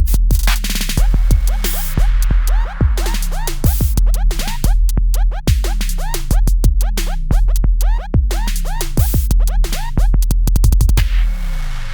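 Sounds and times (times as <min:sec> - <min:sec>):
electronic music with deep bass: 0:00.0 - 0:11.9.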